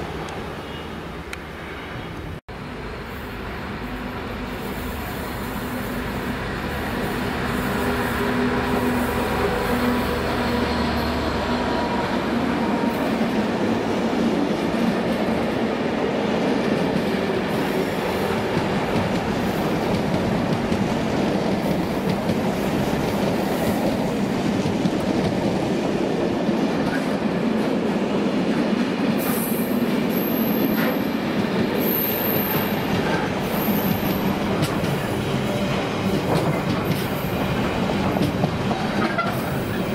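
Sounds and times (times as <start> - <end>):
train wagons rumbling on rails: 3.7 - 39.9.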